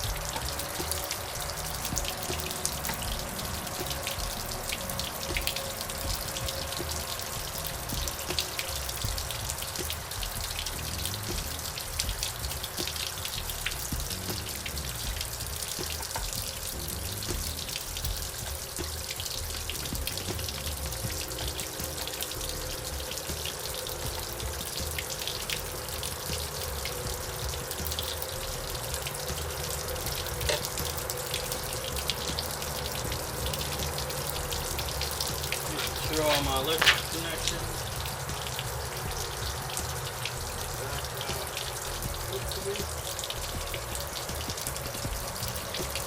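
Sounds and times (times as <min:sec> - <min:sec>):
running splashing water: 0:00.0 - 0:46.0
water drips: 0:00.0 - 0:46.0.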